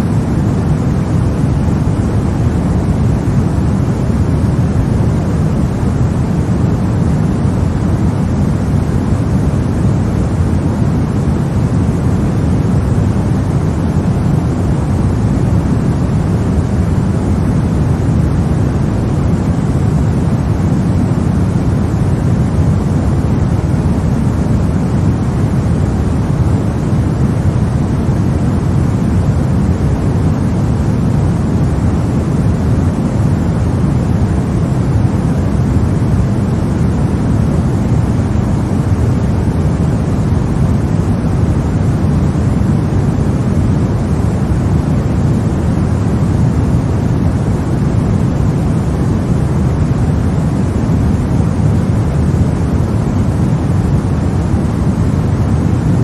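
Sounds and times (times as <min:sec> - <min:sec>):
white noise hush: 0:00.0 - 0:56.0.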